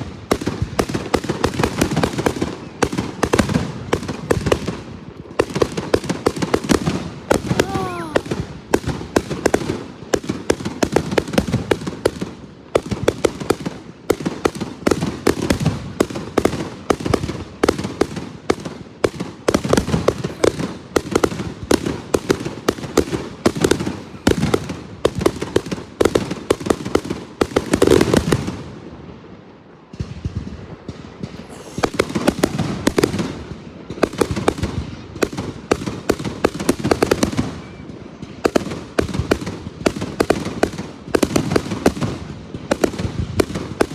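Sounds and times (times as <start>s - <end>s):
fireworks banging and crackling: 0.0s - 43.9s.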